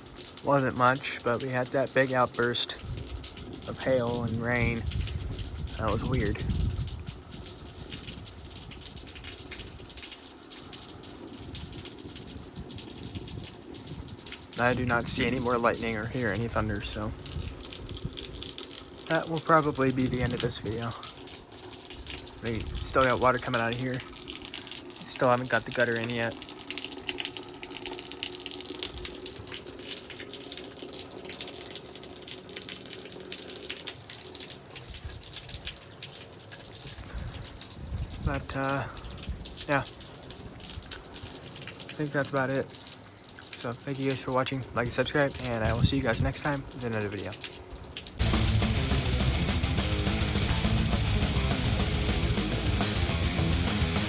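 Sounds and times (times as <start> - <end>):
rainwater splashing off roof: 0.0 - 54.0
water drips ticking: 0.0 - 54.0.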